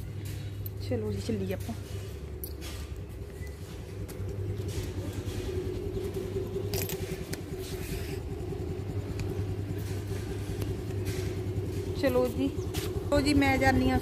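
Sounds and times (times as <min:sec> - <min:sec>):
scooter engine idling: 0:02.0 - 0:14.0.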